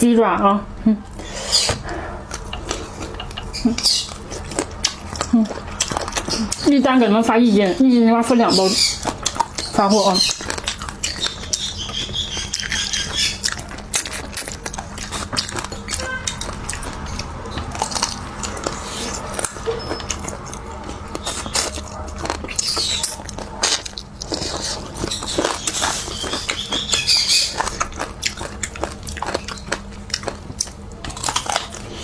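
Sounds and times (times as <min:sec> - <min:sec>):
biting and chewing: 0:01.1 - 0:32.0
wet clicks and crunches: 0:02.3 - 0:06.9, 0:08.9 - 0:32.0.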